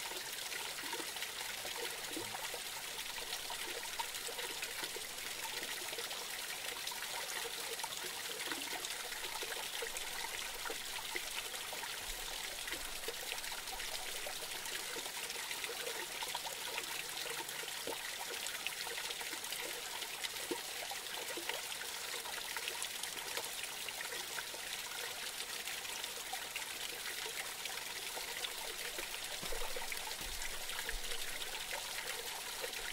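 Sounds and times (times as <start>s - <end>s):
creek trickling and splashing: 0.0s - 32.9s.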